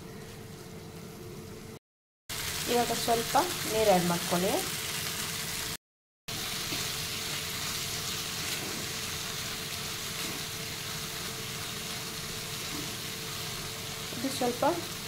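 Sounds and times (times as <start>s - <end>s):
masala sizzling in a frying pan: 2.3s - 15.0s.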